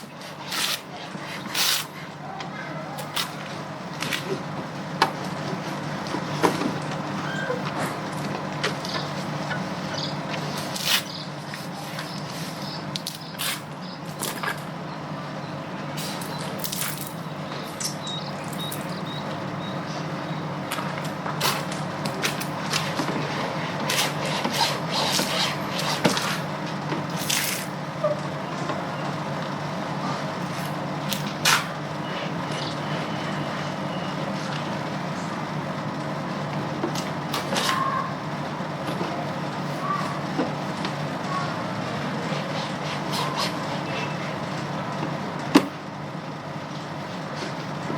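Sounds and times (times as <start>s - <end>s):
steady motor hum: 0.0s - 47.9s.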